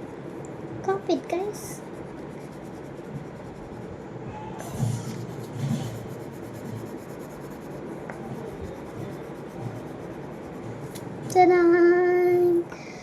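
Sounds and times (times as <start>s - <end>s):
crayon scratching on paper: 0.9s - 11.6s.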